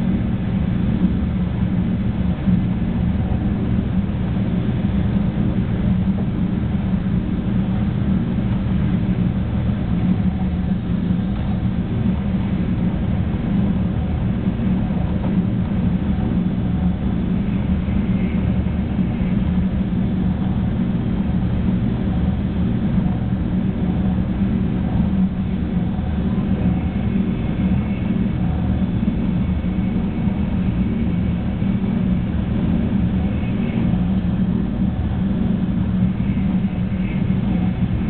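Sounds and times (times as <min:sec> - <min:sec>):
train rumbling at speed: 0:00.0 - 0:38.0.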